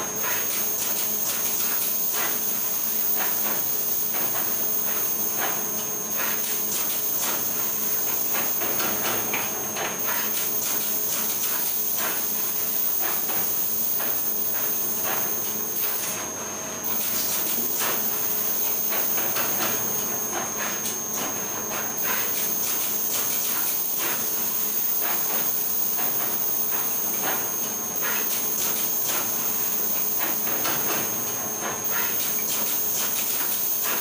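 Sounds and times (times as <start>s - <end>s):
machine hum and high whine: 0.0s - 34.0s.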